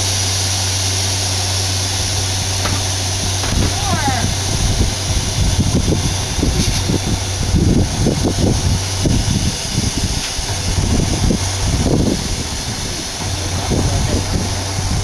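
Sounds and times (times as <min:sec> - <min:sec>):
dump truck diesel engine hum: 0:00.0 - 0:15.0.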